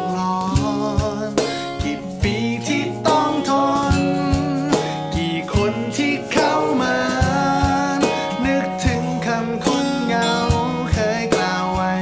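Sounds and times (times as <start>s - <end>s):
acoustic guitars strumming: 0.0s - 12.0s
low thumping beat: 0.0s - 12.0s
man singing: 0.0s - 12.0s.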